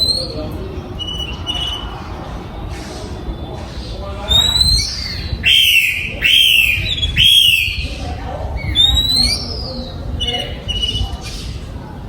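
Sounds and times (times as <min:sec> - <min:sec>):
bird whistling song: 0:00.0 - 0:08.0, 0:08.6 - 0:11.5.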